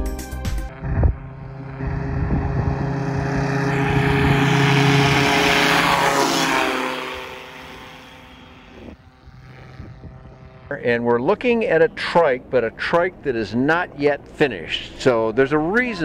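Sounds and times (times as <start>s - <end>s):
trike engine and propeller: 0.7s - 16.0s.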